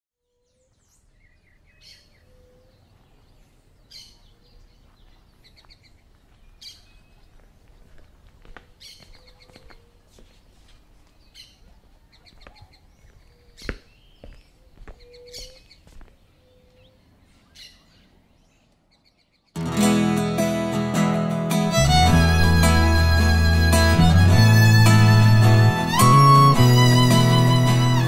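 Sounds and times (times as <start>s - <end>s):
birds chirping: 0.3s - 20.6s, 21.6s - 28.0s.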